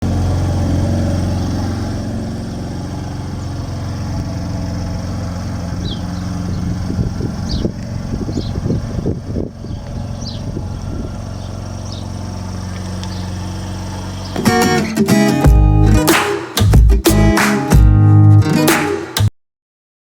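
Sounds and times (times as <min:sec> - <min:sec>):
car engine idling: 0:00.0 - 0:18.0
engine knocks: 0:00.0 - 0:18.0.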